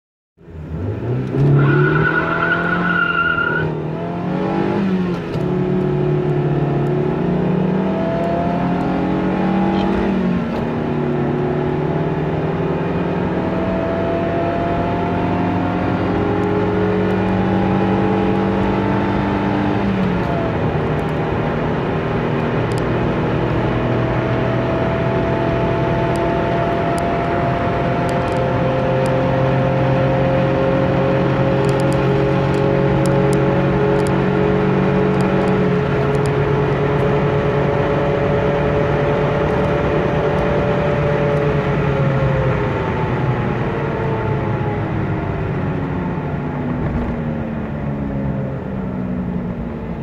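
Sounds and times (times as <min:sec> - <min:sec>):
car engine accelerating: 0:00.4 - 0:50.0.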